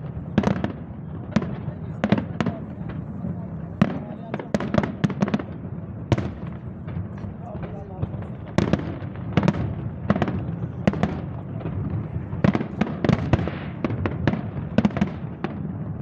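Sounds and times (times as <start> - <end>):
fireworks banging: 0.0 - 16.0
fireworks crackling: 0.0 - 16.0.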